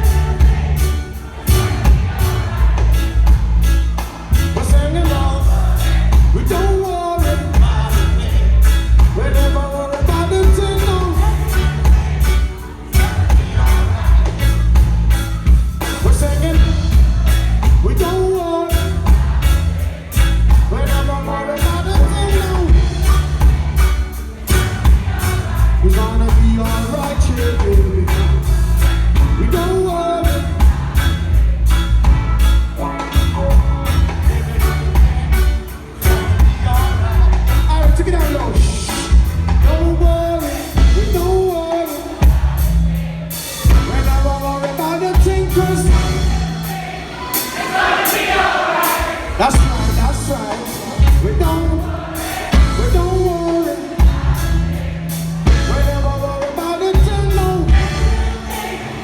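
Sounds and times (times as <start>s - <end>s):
heavy pulsing bass line: 0.0s - 41.6s, 42.2s - 46.7s, 49.4s - 58.5s
live reggae band playing: 0.0s - 59.0s.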